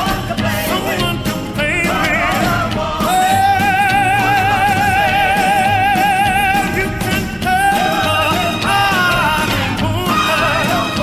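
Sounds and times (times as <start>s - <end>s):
rhythm and blues song: 0.0s - 11.0s.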